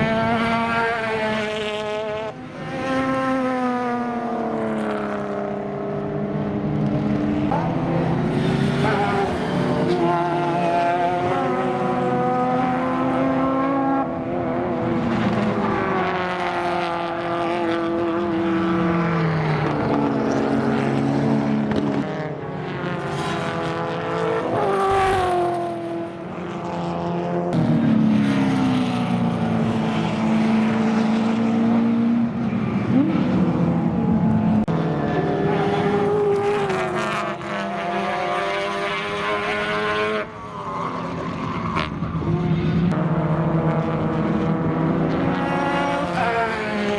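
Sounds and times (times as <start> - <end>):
racing car engines revving: 0.0 - 46.9.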